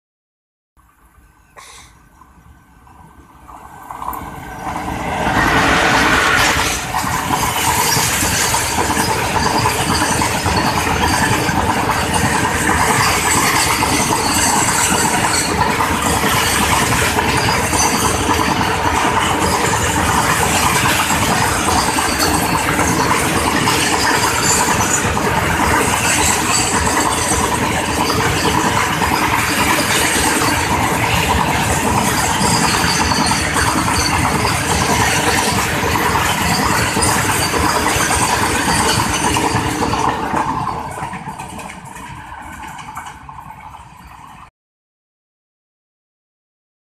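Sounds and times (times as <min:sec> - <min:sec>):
electric locomotives passing: 0:00.9 - 0:44.5
wheels clattering on rail: 0:00.9 - 0:44.5.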